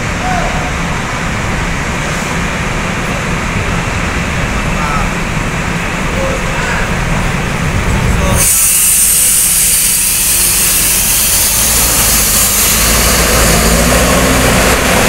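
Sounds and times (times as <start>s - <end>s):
bus diesel engines running: 0.0s - 15.0s
loud steady hiss: 0.0s - 15.0s.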